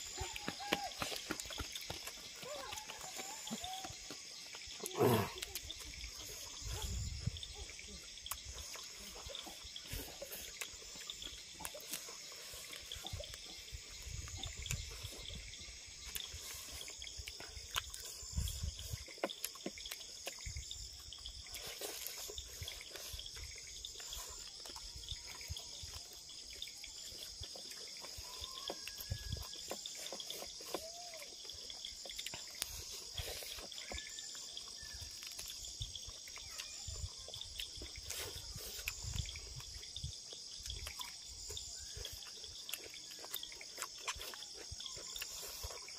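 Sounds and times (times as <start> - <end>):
chewing and smacking: 0.0 - 6.6, 8.2 - 45.9
insects chirring: 0.0 - 45.9.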